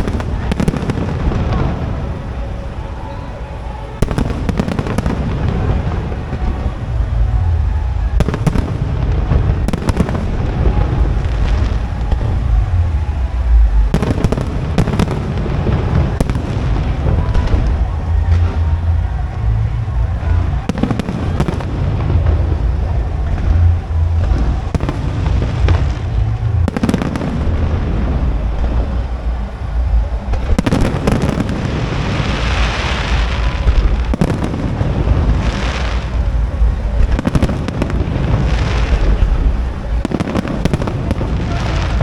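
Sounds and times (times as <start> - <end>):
firework shells booming: 0.0 - 3.0, 3.8 - 42.0
firework crackling: 0.0 - 42.0.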